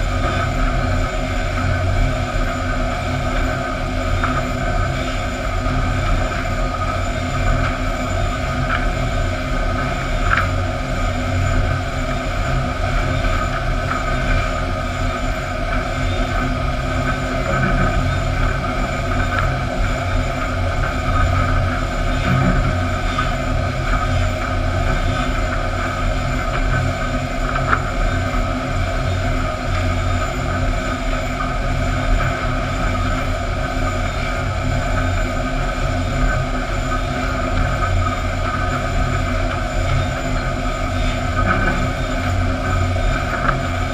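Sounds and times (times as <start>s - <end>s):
sawmill machinery rumble and hum: 0.0s - 43.9s.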